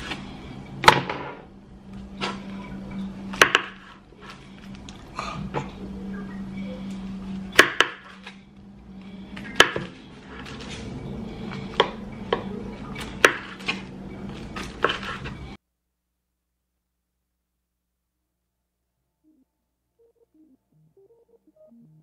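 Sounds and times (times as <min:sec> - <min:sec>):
steady low hum: 0:00.0 - 0:15.6, 0:16.5 - 0:22.0.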